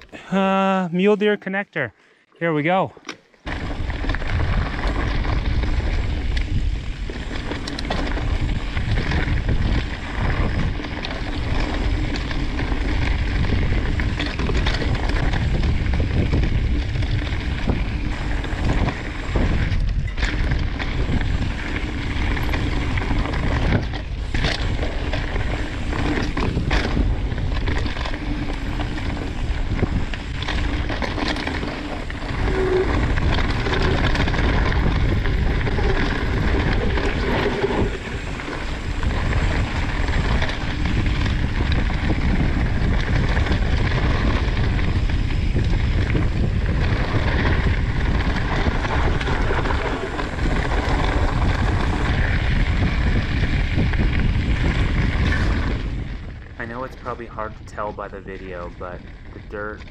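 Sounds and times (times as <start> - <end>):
bike tyres on dirt: 2.5 - 59.9
bike rattling over bumps: 3.4 - 59.9
wind rumble on microphone: 3.4 - 59.9.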